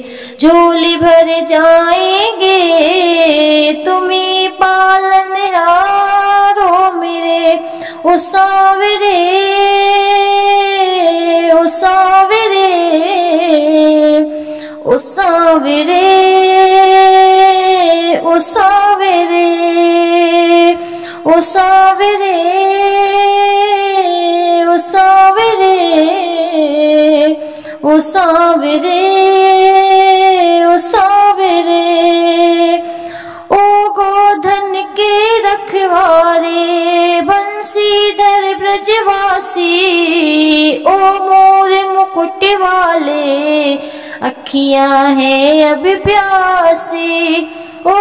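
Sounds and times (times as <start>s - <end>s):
woman singing wordless melody: 0.0s - 48.0s.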